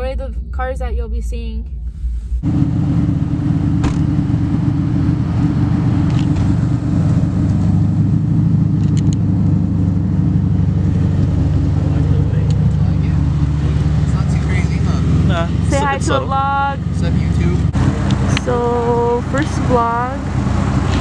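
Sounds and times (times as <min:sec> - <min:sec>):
car engine idling: 0:01.8 - 0:21.0.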